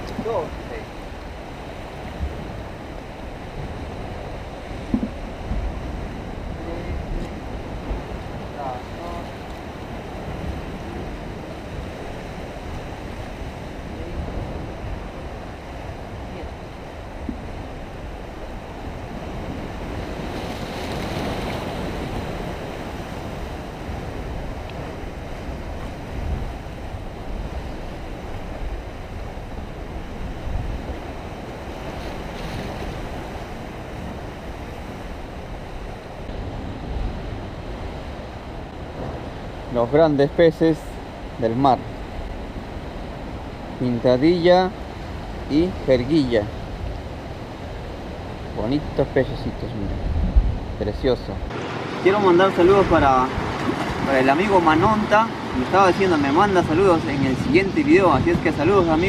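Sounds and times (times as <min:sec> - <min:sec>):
surf washing on rocky shore: 0:00.0 - 0:59.0
wind gusting on microphone: 0:00.0 - 0:59.0.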